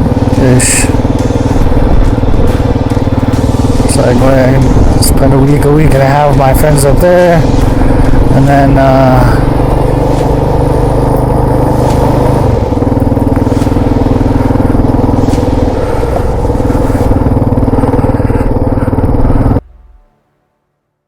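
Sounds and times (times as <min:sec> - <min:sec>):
motorcycle engine running: 0:00.0 - 0:20.1.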